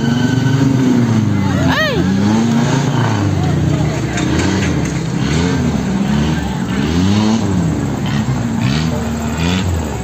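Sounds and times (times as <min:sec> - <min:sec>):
off-road vehicle engine revving: 0:00.0 - 0:10.0.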